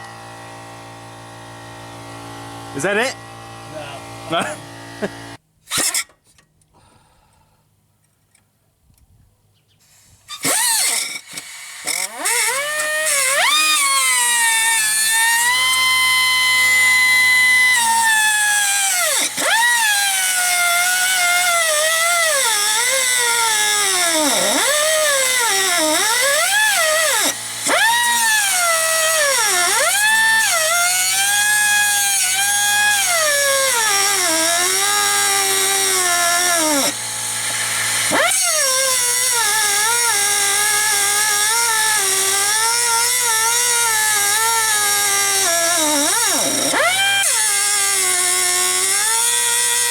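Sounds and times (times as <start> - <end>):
air-powered cutting tool whining: 0.0 - 6.1, 9.8 - 49.9.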